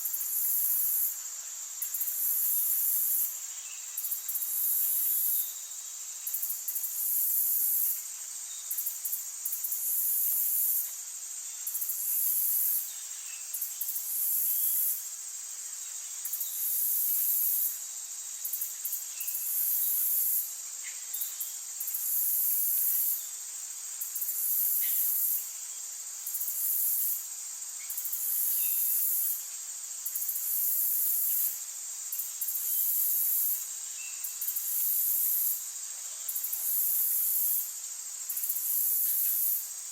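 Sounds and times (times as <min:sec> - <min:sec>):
insects trilling: 0:00.0 - 0:39.9
steady high insect drone: 0:00.0 - 0:39.9.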